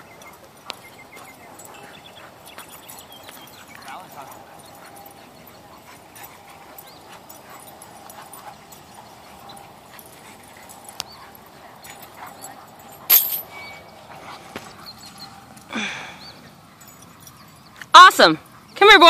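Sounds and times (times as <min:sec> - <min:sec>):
dogs vocalizing while playing: 0:00.0 - 0:18.8.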